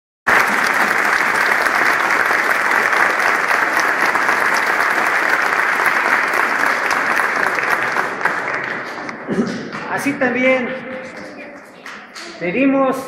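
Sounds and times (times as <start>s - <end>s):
crowd applauding: 0.3s - 12.4s.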